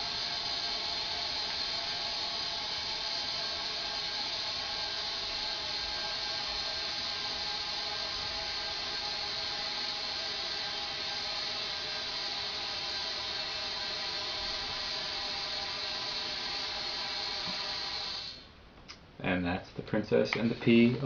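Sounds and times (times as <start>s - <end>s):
compressed air hissing: 0.0s - 18.6s, 20.2s - 21.0s.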